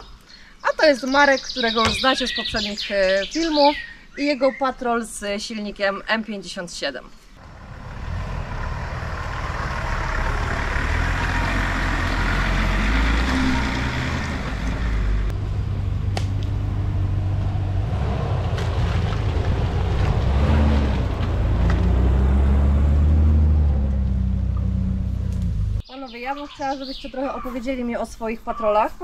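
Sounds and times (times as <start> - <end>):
off-road vehicle engines: 0.0 - 4.2, 7.4 - 29.0.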